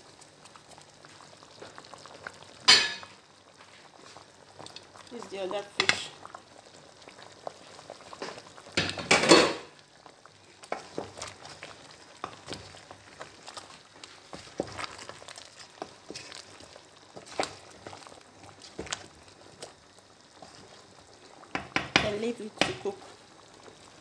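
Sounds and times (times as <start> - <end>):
soup simmering with pops: 0.0 - 24.0
wooden spoon stirring in pot: 0.0 - 24.0.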